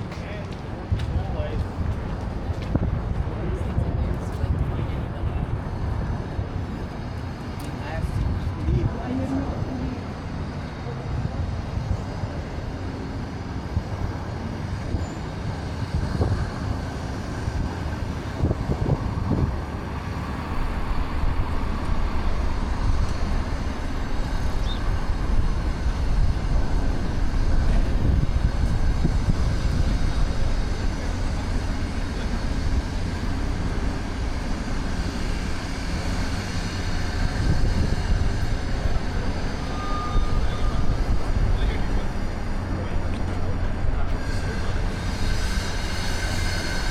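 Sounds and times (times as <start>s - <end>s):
traffic rumble: 0.0s - 46.9s.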